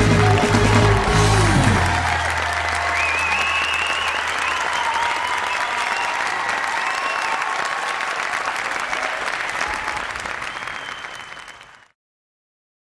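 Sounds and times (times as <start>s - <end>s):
audience applauding and cheering: 0.0s - 12.0s.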